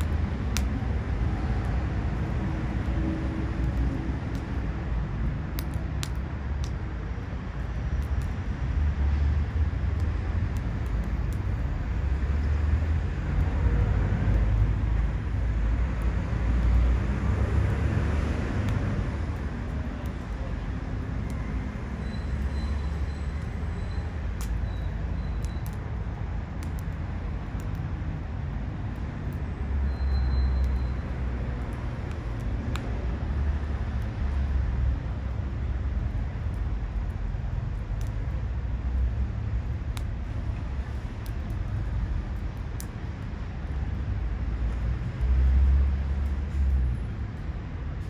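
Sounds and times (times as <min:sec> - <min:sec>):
fire rumbling: 0:00.0 - 0:48.0
firewood crackling: 0:00.0 - 0:48.0.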